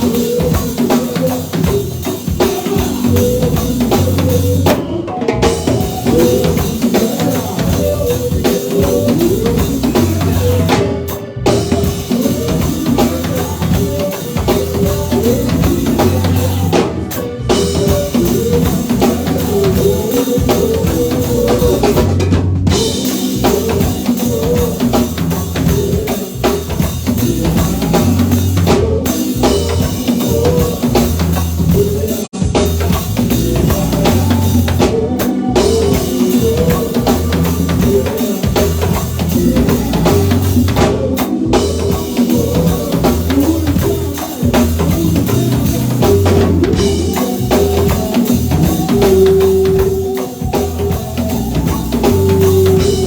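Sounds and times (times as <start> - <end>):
bass line: 0.0 - 53.0
drum kit: 0.0 - 53.0
live band playing instrumental: 0.0 - 53.0.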